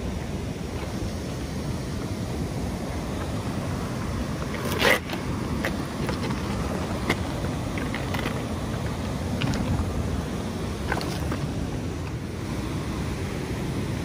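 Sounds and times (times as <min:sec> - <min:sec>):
moving water: 0:00.0 - 0:14.0.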